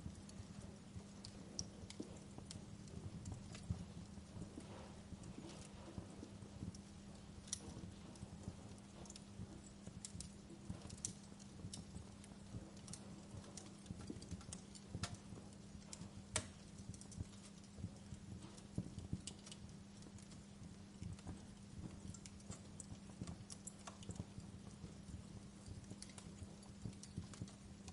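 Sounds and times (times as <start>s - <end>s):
low steady hum: 0.0s - 27.9s
wood fire crackling: 0.0s - 27.9s.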